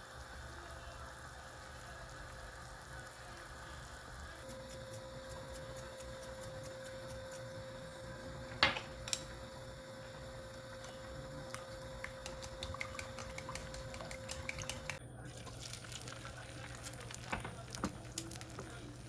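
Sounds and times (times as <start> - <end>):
kitchen hum: 0.0 - 19.0.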